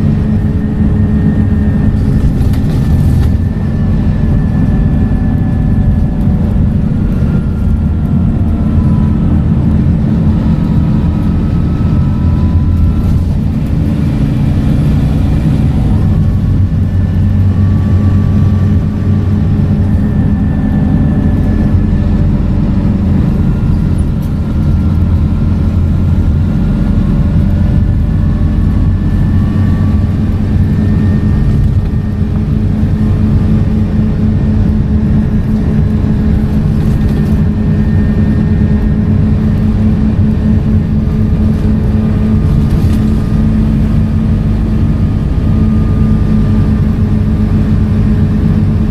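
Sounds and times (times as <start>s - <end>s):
deep engine hum: 0.0s - 48.9s
gearbox whine: 0.0s - 48.9s.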